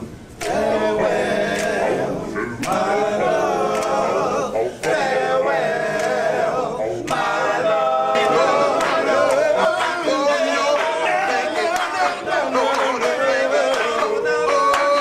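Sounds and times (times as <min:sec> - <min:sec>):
male vocal group singing a cappella: 0:00.0 - 0:15.0.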